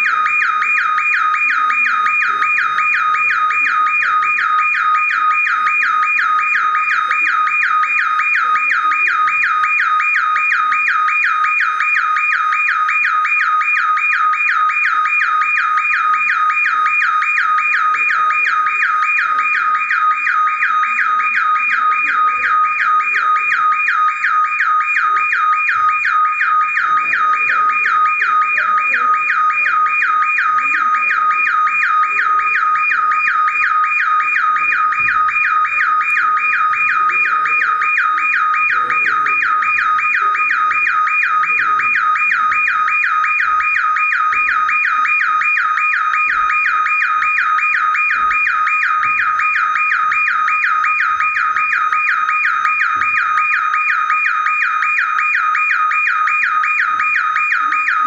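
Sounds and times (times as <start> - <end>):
faint murmuring voices: 0.0 - 58.0
shrill warbling electronic alarm: 0.0 - 58.0.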